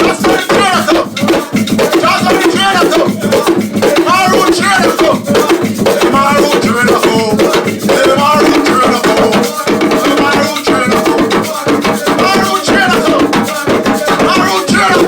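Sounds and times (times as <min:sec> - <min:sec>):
drumming in a steady rhythm: 0:00.0 - 0:15.0
voices singing: 0:00.0 - 0:15.0.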